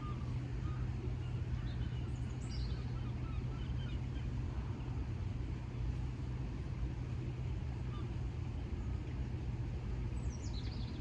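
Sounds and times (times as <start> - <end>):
constant hum: 0.0 - 11.0
low outdoor rumble: 0.0 - 11.0.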